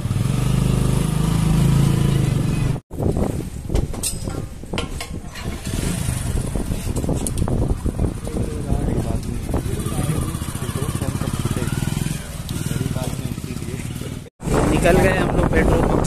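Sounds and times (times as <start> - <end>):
motorcycle engine running: 0.0 - 2.8, 5.4 - 16.0.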